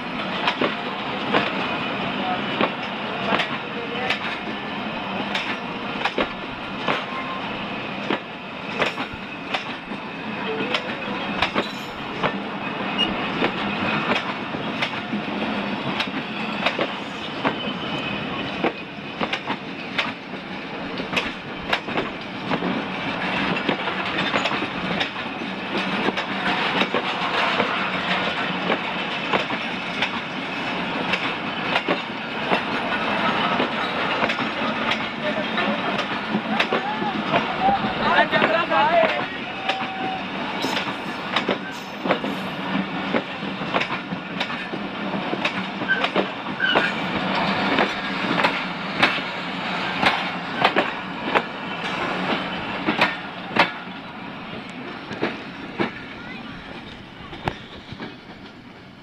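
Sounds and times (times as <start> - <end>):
train wheels rumbling on rail: 0.0 - 59.0
wheels clacking over rail joints: 5.3 - 7.4, 8.0 - 17.8, 18.4 - 58.9.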